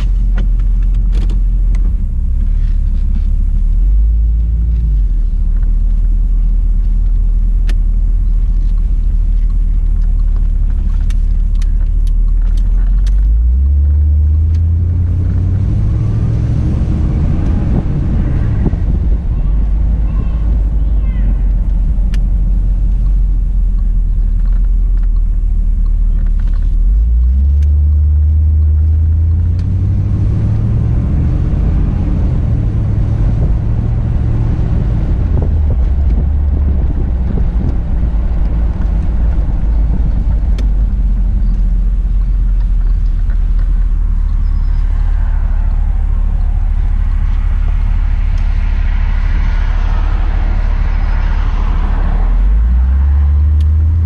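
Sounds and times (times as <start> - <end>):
car engine deep rumble: 0.0 - 54.0
road and wind noise: 0.0 - 54.0.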